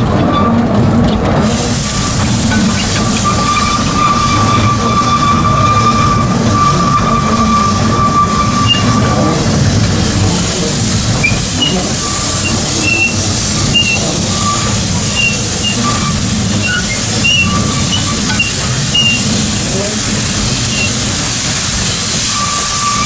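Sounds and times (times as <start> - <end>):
wheel flanges squealing: 0.0 - 23.0
steam hissing: 1.3 - 23.0.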